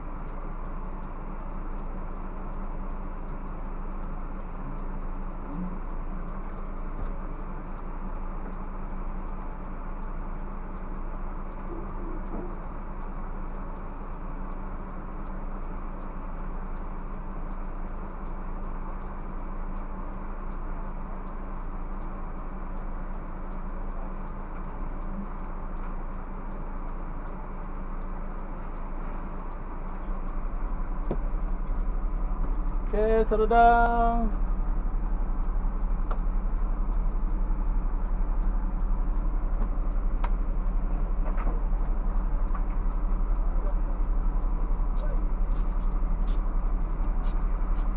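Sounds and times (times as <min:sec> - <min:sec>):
bus engine humming: 0:00.0 - 0:47.9.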